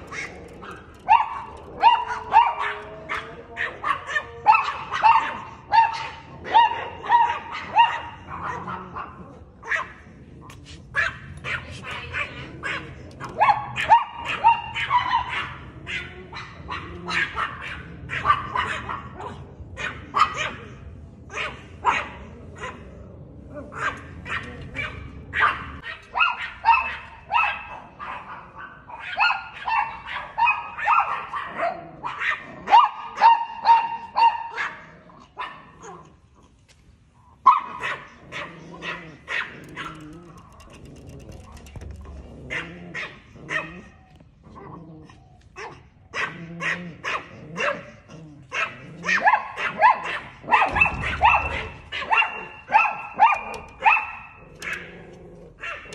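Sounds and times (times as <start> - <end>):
small dog barking: 0.0 - 10.0, 10.9 - 22.8, 23.7 - 36.2, 37.4 - 40.6, 42.5 - 44.8, 45.5 - 55.0, 55.6 - 55.9.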